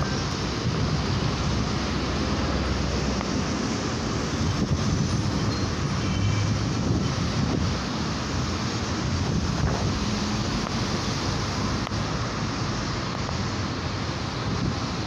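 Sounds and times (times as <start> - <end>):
traffic rumble of engines and tyres: 0.0 - 15.0
wind buffeting microphone: 0.0 - 15.0.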